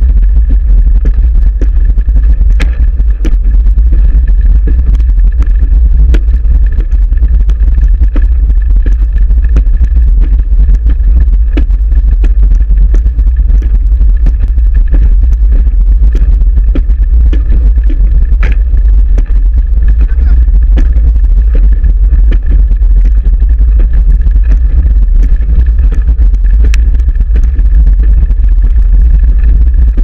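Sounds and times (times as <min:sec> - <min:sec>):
wheelchair rolling rumble: 0:00.0 - 0:28.3
faint high whine: 0:00.0 - 0:30.0
wind noise: 0:00.0 - 0:30.0.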